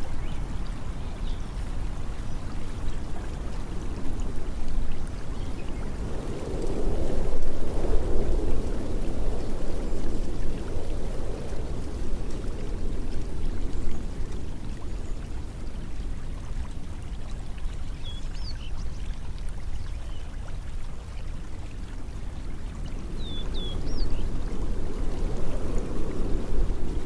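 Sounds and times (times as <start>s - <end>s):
water flowing: 0.0s - 27.0s.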